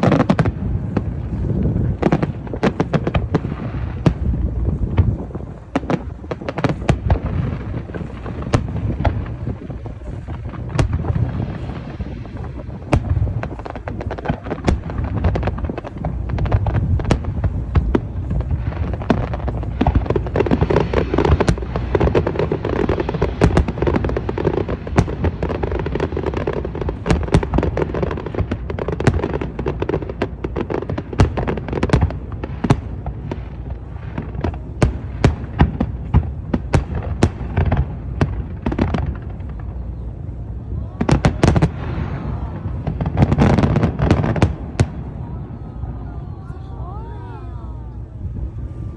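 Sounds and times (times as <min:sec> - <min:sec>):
fireworks cracking: 0:00.0 - 0:48.9.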